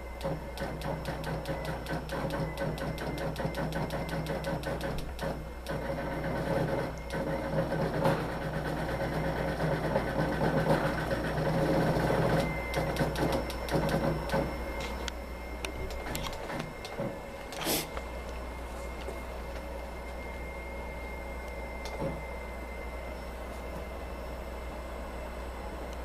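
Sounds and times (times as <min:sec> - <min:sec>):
machine motor hum: 0:00.0 - 0:26.0.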